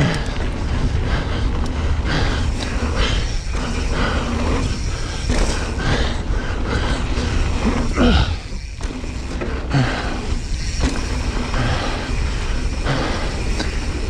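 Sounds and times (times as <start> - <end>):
bike tyres on loose dirt: 0.0 - 14.0
wind rumble on microphone: 0.0 - 14.0.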